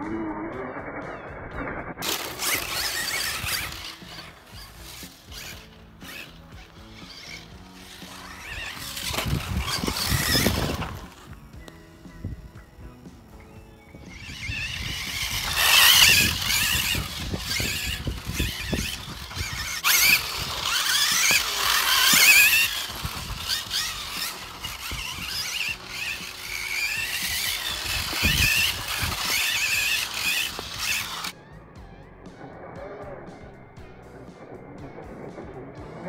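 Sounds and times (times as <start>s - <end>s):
rc car motor whine: 2.0s - 31.3s.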